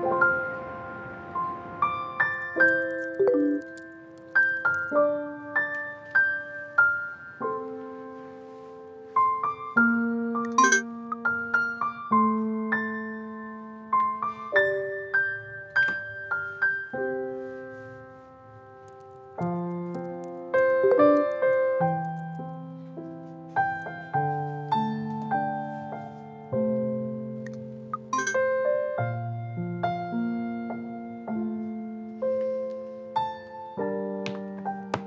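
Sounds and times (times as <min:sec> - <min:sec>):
slow solo piano: 0:00.0 - 0:35.0.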